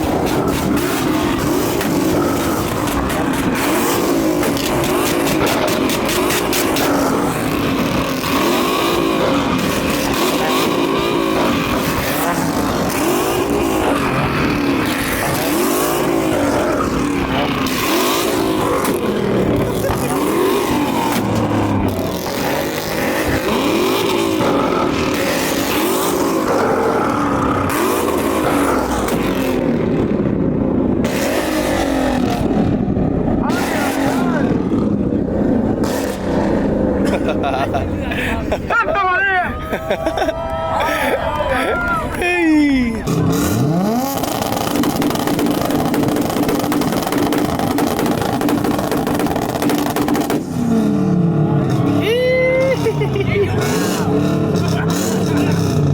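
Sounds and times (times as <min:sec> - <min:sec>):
car engine revving: 0:00.0 - 0:39.0, 0:41.6 - 0:55.9.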